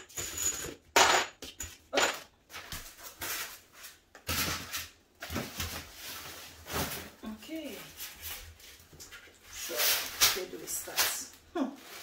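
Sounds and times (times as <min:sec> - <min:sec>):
plastic wrapping rustling and crinkling: 0:02.4 - 0:12.0.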